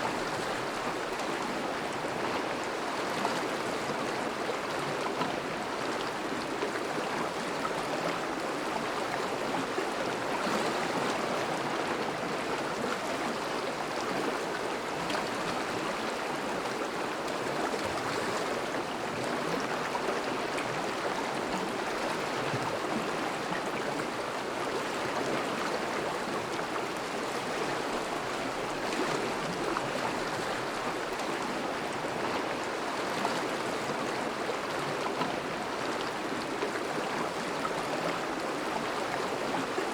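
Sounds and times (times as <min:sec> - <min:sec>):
river water rushing and burbling: 0:00.0 - 0:39.9.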